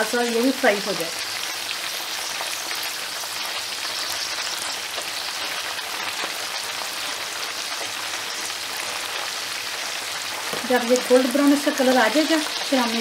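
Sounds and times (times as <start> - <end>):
deep-frying in hot oil: 0.0 - 13.0.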